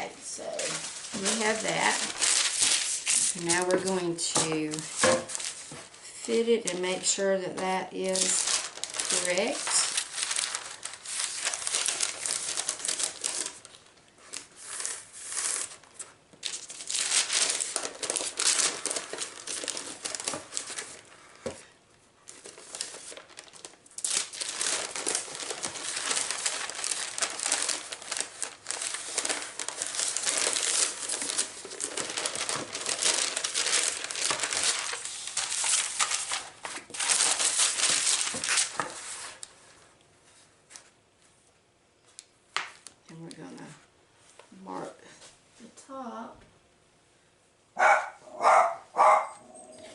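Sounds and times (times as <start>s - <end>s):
paper crinkling and rustling: 0.4s - 41.0s.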